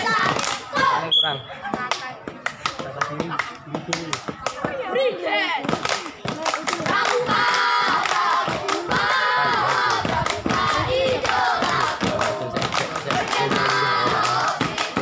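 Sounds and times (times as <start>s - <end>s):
children chanting and shouting: 0.0s - 3.4s, 4.2s - 15.0s
sharp hand claps: 1.8s - 4.7s, 5.7s - 15.0s.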